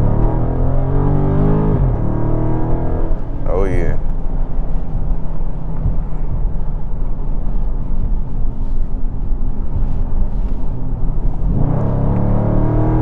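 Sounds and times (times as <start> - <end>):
car engine exhaust rumble: 0.0 - 13.0
road noise: 0.0 - 13.0.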